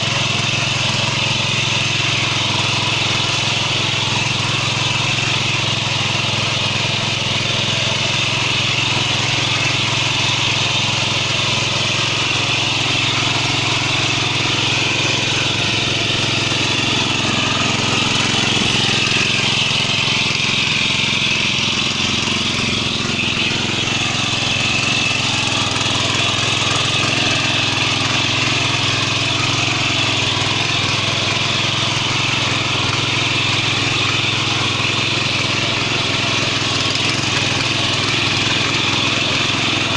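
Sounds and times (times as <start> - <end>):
power weeder engine running: 0.0 - 39.9
tines churning soil: 0.0 - 39.9.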